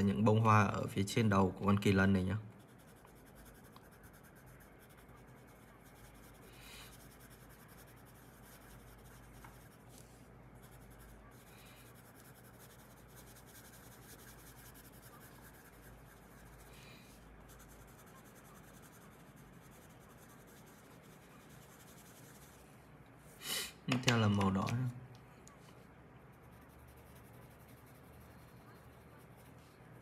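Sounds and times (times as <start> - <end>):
colored pencil scratching on paper: 0.0 - 22.7, 25.8 - 30.0.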